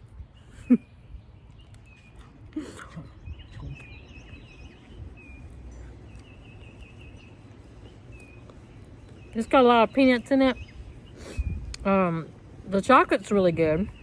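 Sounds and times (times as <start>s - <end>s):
faint low outdoor rumble: 0.0s - 14.0s
small birds chirping: 0.0s - 14.0s.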